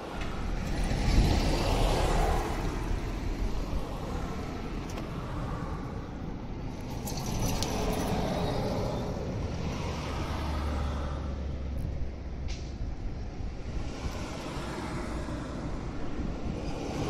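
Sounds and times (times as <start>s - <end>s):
passing traffic rumble: 0.0s - 17.0s.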